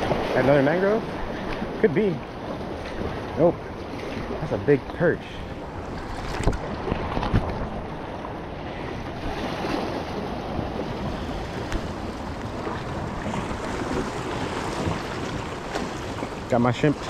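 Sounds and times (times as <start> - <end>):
sea water splashing against rocks: 0.0 - 4.9, 5.7 - 8.2, 9.0 - 17.0
wind buffeting microphone: 0.0 - 17.0.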